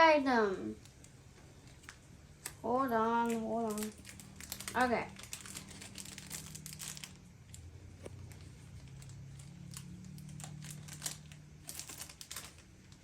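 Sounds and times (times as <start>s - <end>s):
plastic bag crinkling: 0.8s - 13.0s.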